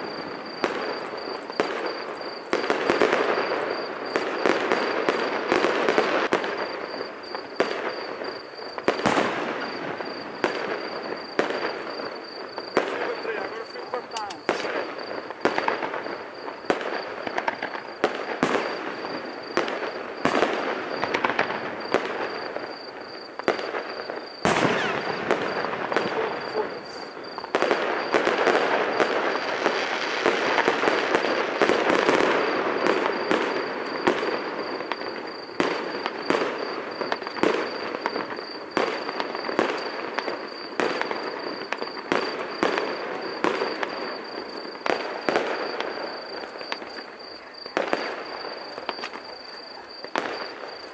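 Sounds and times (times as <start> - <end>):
fireworks banging and crackling: 0.0 - 50.9.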